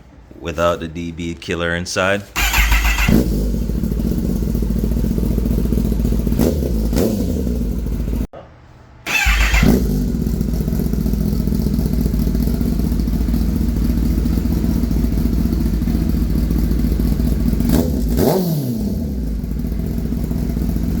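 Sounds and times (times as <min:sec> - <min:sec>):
motorcycle engine idling and revving: 0:02.4 - 0:08.3, 0:09.1 - 0:21.0.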